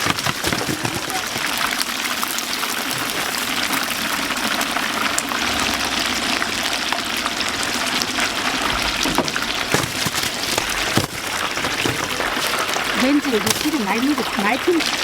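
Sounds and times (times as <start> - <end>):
food deep-frying in hot oil: 0.8 - 15.0.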